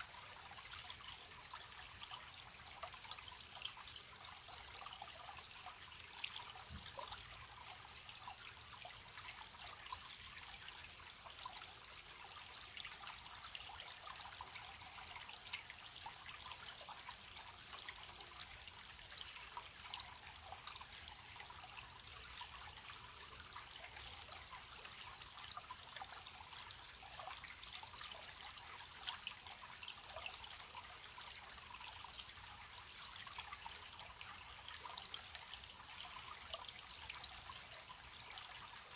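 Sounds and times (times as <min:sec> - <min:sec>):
small stream trickling: 0:00.0 - 0:38.9
crickets chirping: 0:03.0 - 0:38.9.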